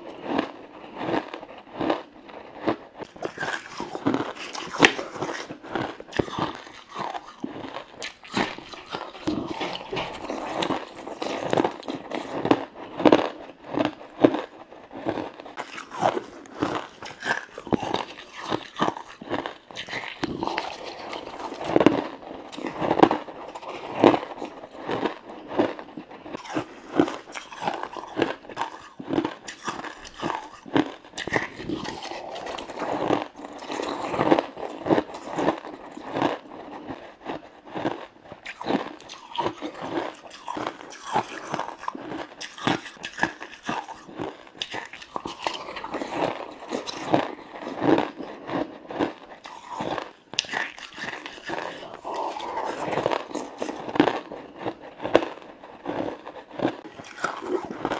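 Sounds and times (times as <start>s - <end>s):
crunching ice: 0.2s - 57.9s.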